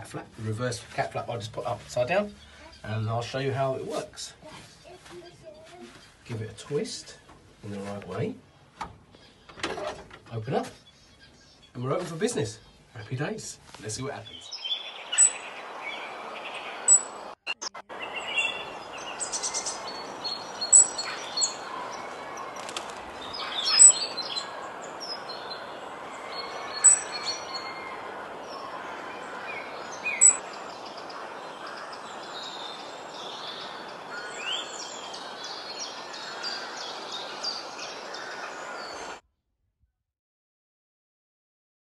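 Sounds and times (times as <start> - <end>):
small birds chirping: 0.0 - 39.2.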